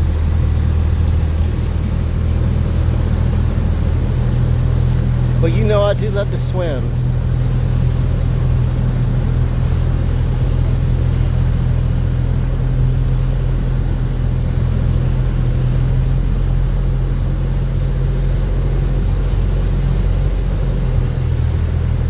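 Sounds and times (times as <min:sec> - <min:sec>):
road noise: 0:00.0 - 0:22.0
vehicle engine drone: 0:00.0 - 0:22.0.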